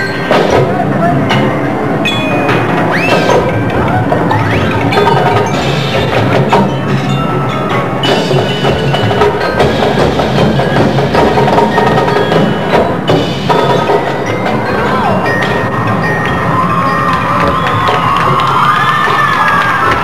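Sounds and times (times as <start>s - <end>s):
bell-like mallet percussion: 0.0s - 20.0s
sharp percussion hits: 0.0s - 20.0s
marching band playing: 1.8s - 20.0s.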